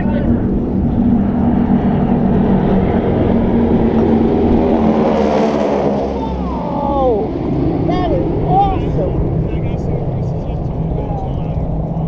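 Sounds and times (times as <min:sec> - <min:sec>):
aircraft engines droning overhead: 0:00.0 - 0:12.0.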